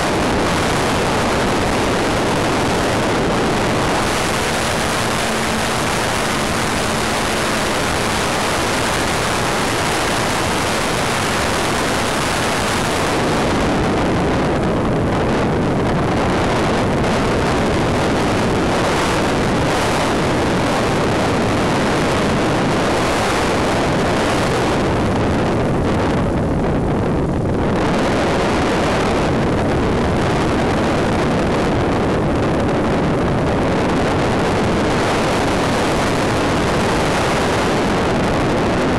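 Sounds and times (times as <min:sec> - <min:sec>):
faint steady hum: 0:00.0 - 0:38.9
wind rushing over microphone: 0:00.0 - 0:38.9.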